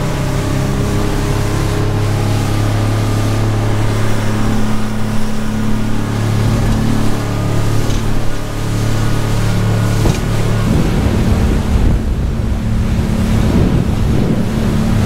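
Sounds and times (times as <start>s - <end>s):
outboard motor droning: 0.0s - 15.0s
water rushing against hull: 0.0s - 15.0s.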